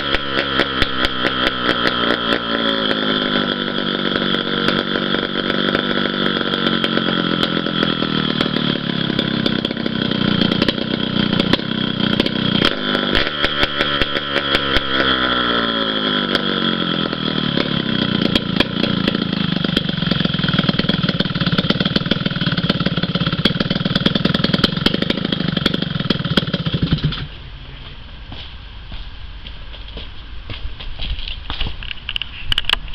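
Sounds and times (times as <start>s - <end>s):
two-stroke engine revving: 0.0s - 27.3s.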